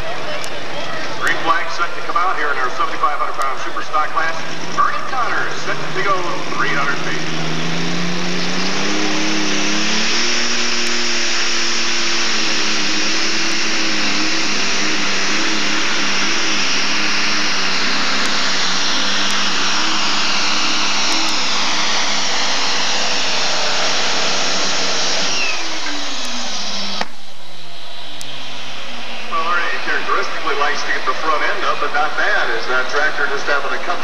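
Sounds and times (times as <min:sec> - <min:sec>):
tractor engine under heavy load: 0:03.0 - 0:34.0.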